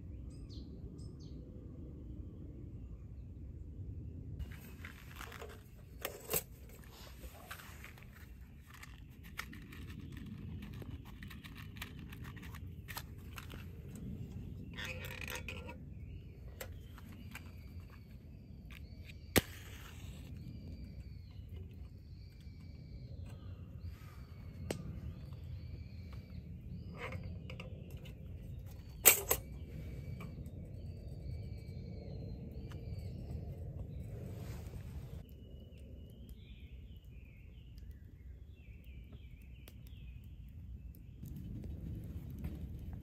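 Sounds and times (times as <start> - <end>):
low outdoor rumble: 0.2 - 43.0.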